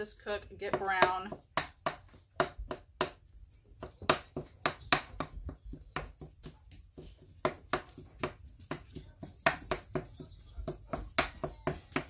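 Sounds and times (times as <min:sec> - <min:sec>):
spatula tapping and scraping skillet: 0:00.0 - 0:12.0.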